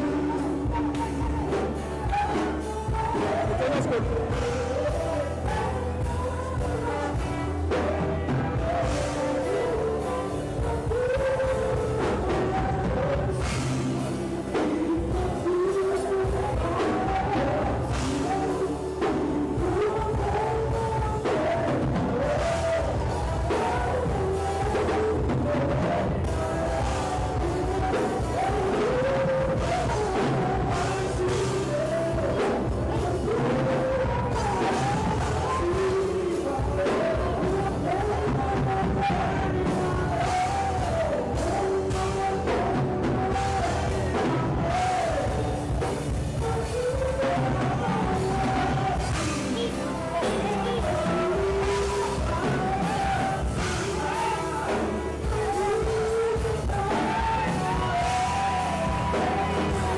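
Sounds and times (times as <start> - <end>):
voices singing worship music: 0.0 - 59.9.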